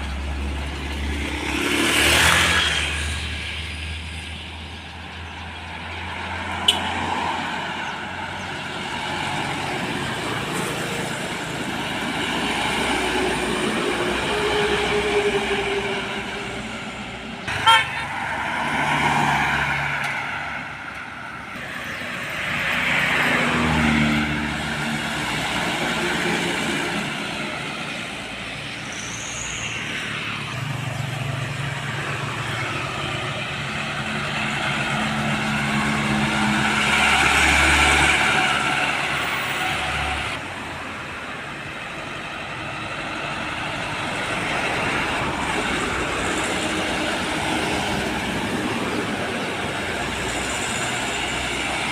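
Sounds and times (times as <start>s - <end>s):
trucks and cars passing by: 0.0s - 51.9s.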